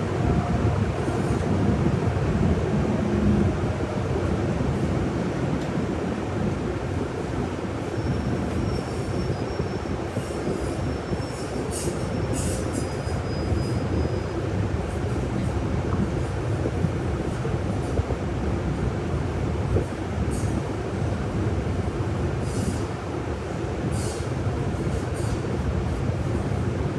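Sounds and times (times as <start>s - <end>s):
bus engine and road rumble: 0.0s - 26.9s.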